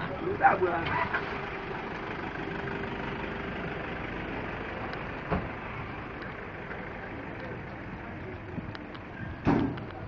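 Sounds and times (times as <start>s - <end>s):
idling traffic engines: 0.0s - 10.0s.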